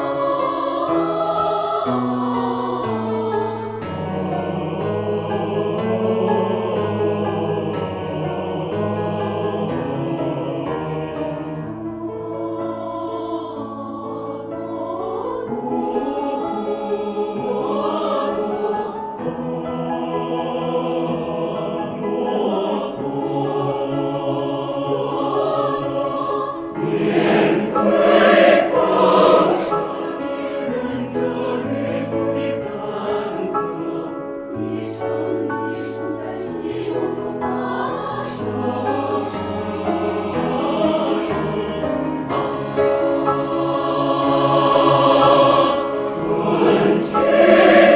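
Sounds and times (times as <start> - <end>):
mixed choir singing: 0.0 - 47.9
piano accompaniment: 0.0 - 47.9.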